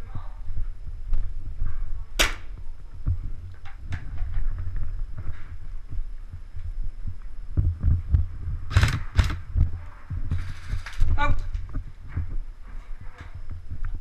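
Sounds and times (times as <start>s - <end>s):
low thuds of footsteps: 0.0s - 14.0s.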